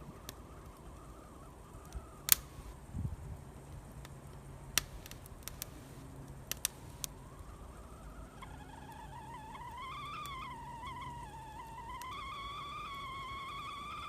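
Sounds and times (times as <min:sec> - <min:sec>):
low steady rumble: 0:00.0 - 0:14.0
wood fire popping: 0:00.0 - 0:14.0.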